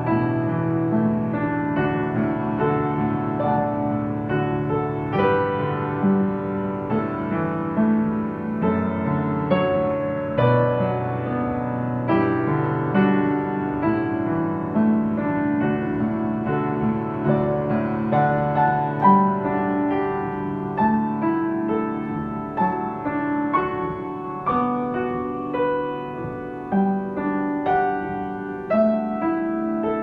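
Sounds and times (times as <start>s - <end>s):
calm piano chords: 0.0s - 30.0s.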